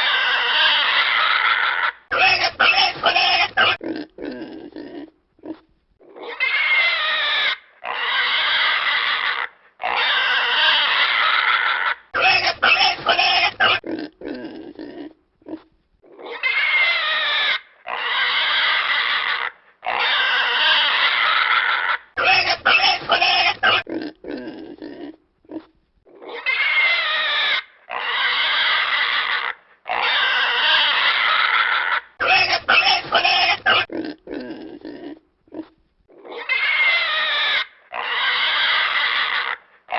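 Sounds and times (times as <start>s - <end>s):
pigs grunting rapidly: 0.0s - 39.9s
pigs squealing: 0.0s - 39.9s.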